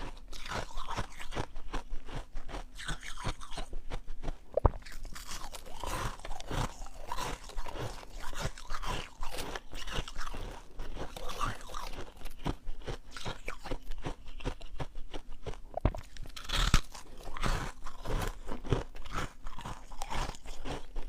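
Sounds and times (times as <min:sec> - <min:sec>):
crunching frost in mouth: 0:00.0 - 0:21.0.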